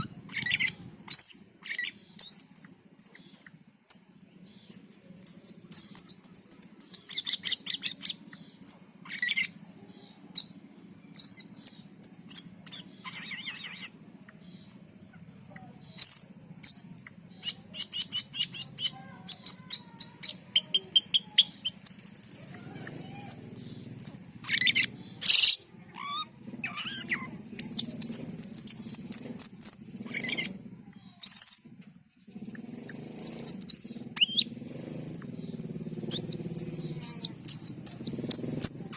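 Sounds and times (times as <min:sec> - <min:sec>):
bird singing chirps and trills: 0:00.0 - 0:38.9
faint low hum: 0:00.0 - 0:38.9.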